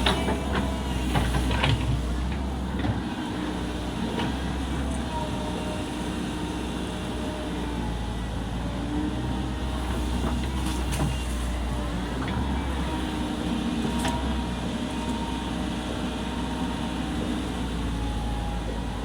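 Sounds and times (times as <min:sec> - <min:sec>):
excavator diesel engine running: 0:00.0 - 0:19.0
faint engine whine: 0:00.0 - 0:19.0.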